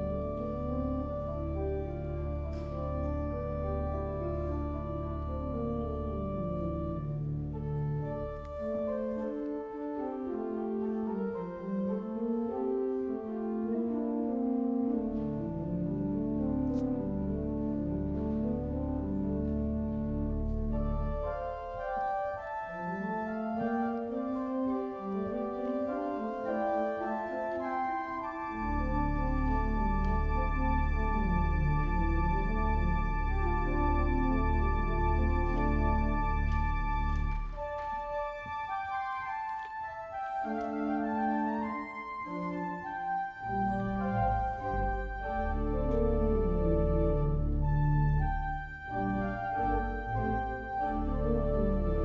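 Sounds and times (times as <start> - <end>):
deep organ bass pedal notes: 0.0 - 39.4, 40.0 - 52.0
pipe organ sustained chords: 0.0 - 52.0.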